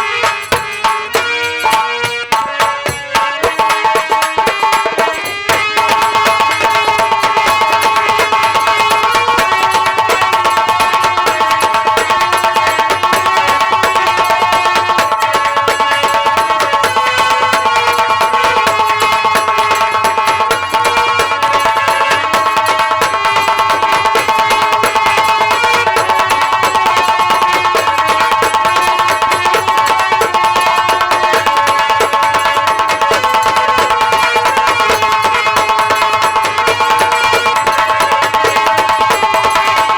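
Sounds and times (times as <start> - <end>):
fast hand drum strokes: 0.0 - 39.9.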